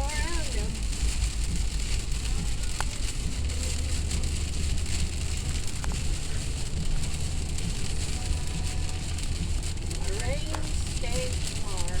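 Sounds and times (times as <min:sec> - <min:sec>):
heavy rain on car: 0:00.0 - 0:12.0
road and engine rumble: 0:00.0 - 0:12.0.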